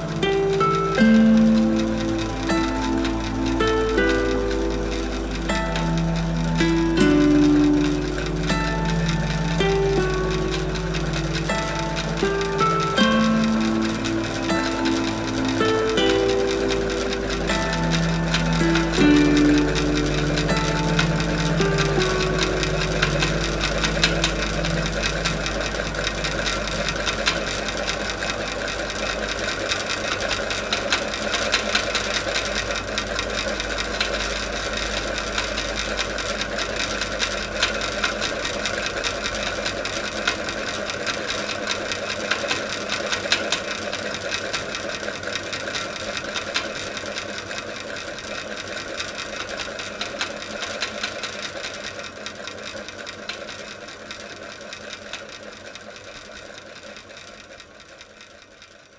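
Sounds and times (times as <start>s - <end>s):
ceiling fan rattling: 0.0s - 58.9s.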